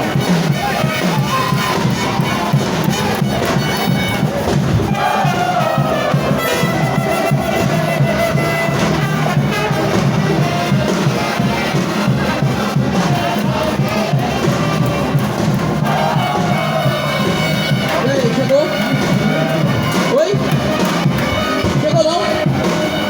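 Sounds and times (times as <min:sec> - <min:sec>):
brass horns playing melody: 0:00.0 - 0:23.0
steady percussion beat: 0:00.0 - 0:23.0.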